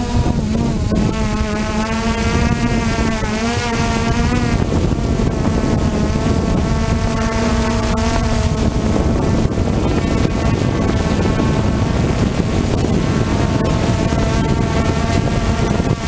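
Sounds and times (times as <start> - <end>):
drone propellers buzzing: 0.0 - 16.0
wind noise on microphone: 0.0 - 16.0.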